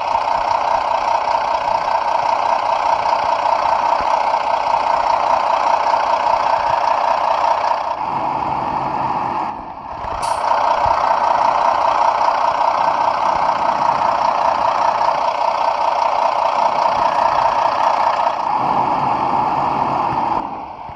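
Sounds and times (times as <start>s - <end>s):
coach engine running: 0.0s - 20.9s.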